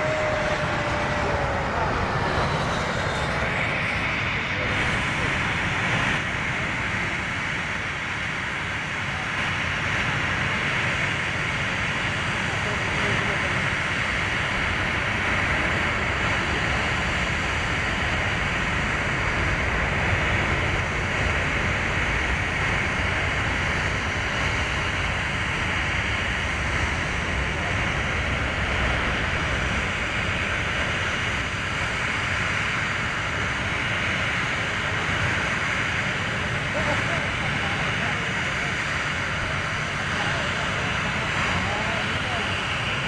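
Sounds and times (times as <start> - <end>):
jet engines rushing: 0.0 - 43.0.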